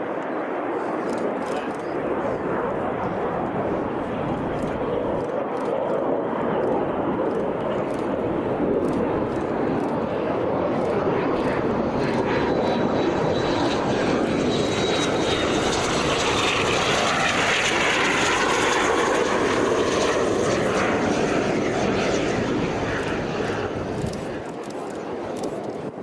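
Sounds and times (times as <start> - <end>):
jet engine with high whine: 0.0 - 26.0.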